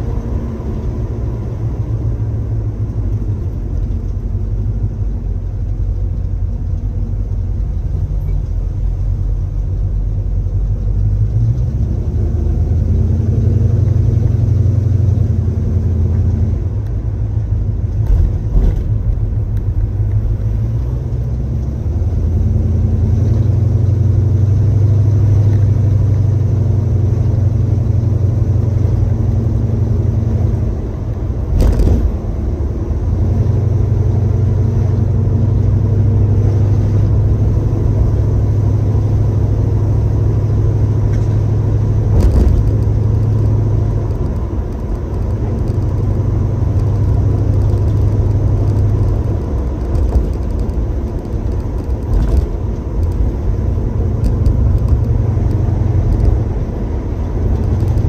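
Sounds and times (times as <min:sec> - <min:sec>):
car engine droning while driving: 0:00.0 - 0:58.0.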